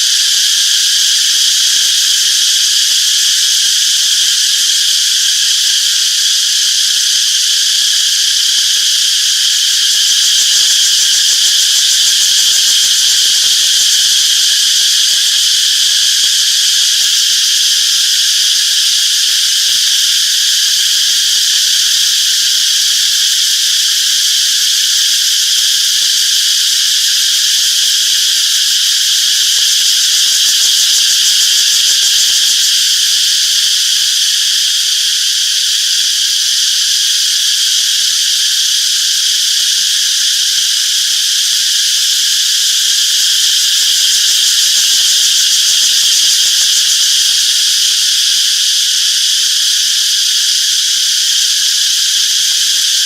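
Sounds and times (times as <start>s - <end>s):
cicadas buzzing: 0.0s - 53.0s.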